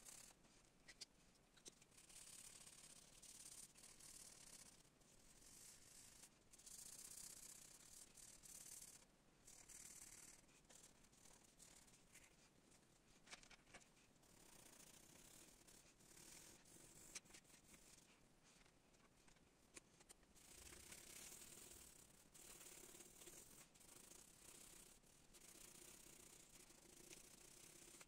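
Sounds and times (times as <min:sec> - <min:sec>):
pencil scratching on paper: 0:01.7 - 0:18.8, 0:19.7 - 0:28.0.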